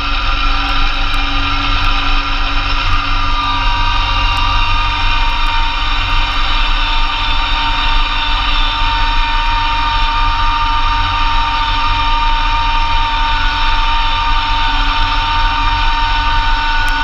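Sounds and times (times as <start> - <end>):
snowblower high whine: 0.0 - 17.0
tractor diesel engine running: 0.0 - 17.0.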